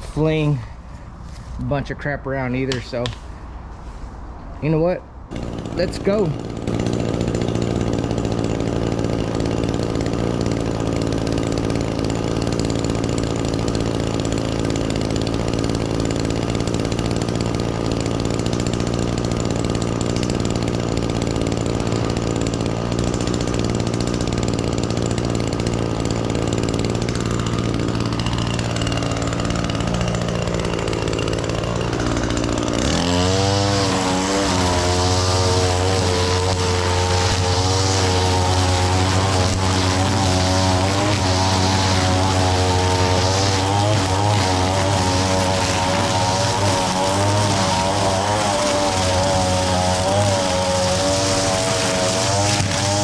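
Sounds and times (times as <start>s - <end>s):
string trimmer engine revving: 0.0s - 3.8s, 4.6s - 53.0s.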